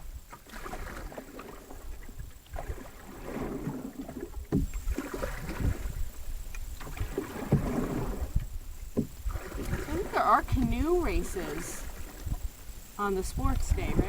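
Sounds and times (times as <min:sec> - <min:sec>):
water swishing with paddle strokes: 0:00.0 - 0:14.0.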